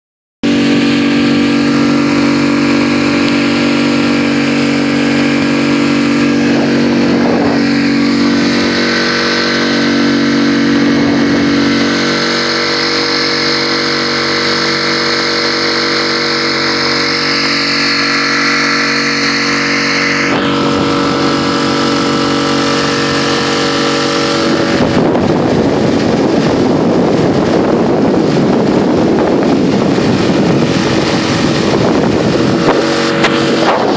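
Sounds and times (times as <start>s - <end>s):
outboard motor running: 0.4s - 33.9s
rush of wind and water: 0.4s - 33.9s.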